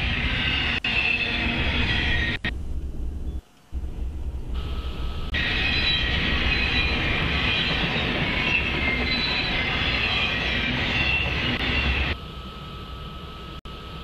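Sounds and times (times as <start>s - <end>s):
freight train wheels on rail: 0.0s - 12.2s.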